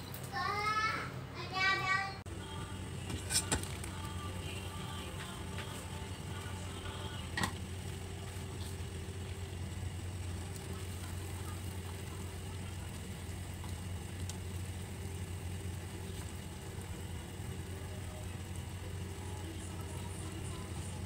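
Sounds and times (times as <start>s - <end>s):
gas hob hum with hiss: 0.0s - 21.0s.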